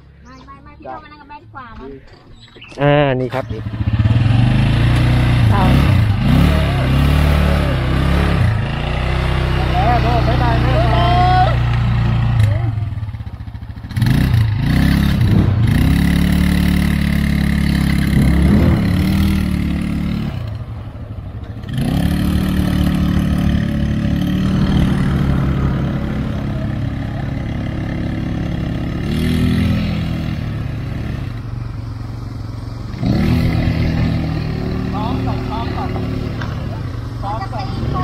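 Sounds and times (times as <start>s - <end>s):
atv engine revving: 2.4s - 38.0s.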